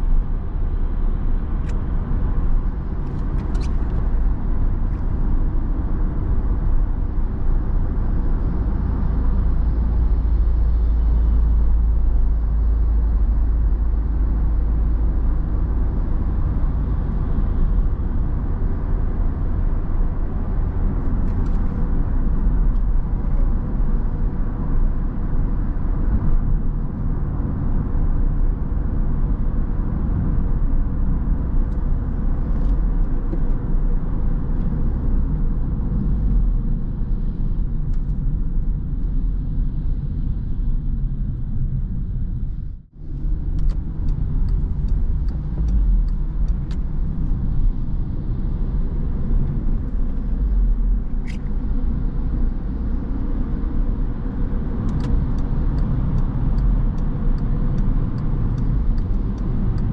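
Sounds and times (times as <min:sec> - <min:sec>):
car interior engine and tyre rumble: 0:00.0 - 0:59.9.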